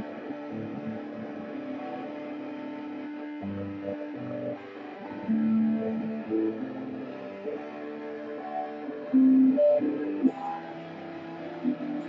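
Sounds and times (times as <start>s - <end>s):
electric guitar sustained notes: 0.0s - 12.0s.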